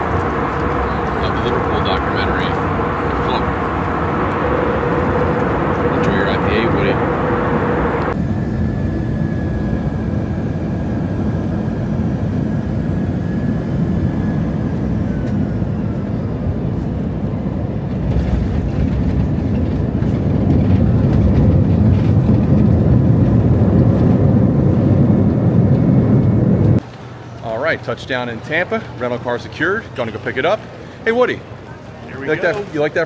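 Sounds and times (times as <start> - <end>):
jet airliner cabin rumble: 0.0 - 26.8.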